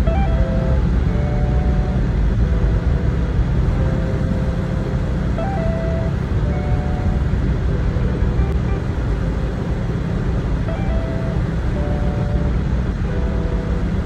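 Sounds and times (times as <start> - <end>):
car road and engine rumble: 0.0 - 14.0
faint melody of held notes: 0.0 - 14.0.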